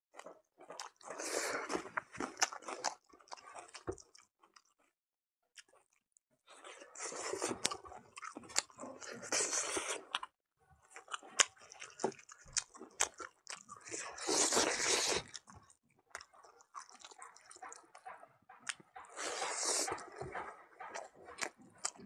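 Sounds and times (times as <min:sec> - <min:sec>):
chewing and crunching: 0:00.1 - 0:04.9, 0:05.6 - 0:22.0.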